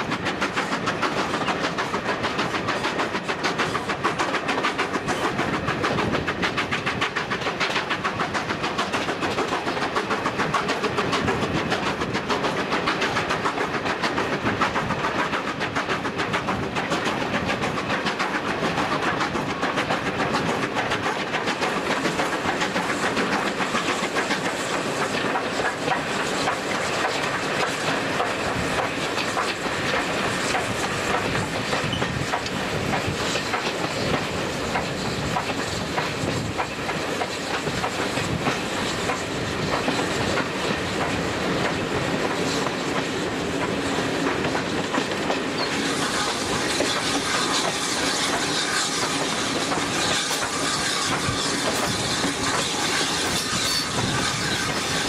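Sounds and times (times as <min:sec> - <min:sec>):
rushing hiss: 0:00.0 - 0:55.0
steam train rhythmic beat: 0:00.0 - 0:55.0.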